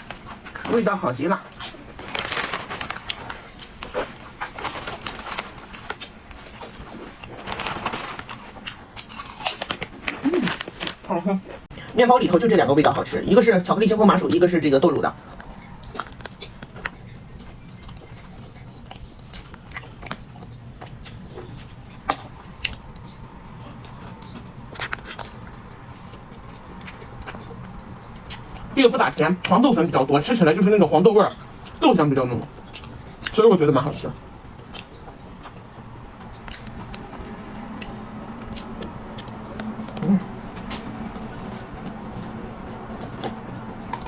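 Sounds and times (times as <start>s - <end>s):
person chewing bread: 0.0s - 11.7s, 15.1s - 28.8s, 32.5s - 44.0s.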